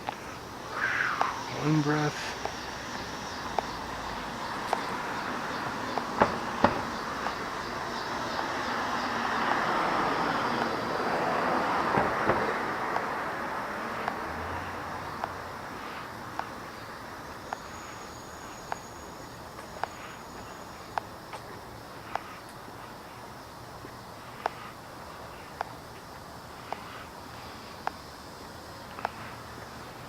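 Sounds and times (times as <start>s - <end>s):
vehicle passing: 0.7s - 25.6s.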